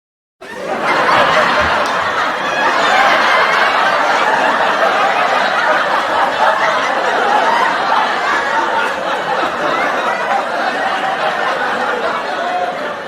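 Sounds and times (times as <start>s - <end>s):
studio audience laughing: 0.4s - 13.0s.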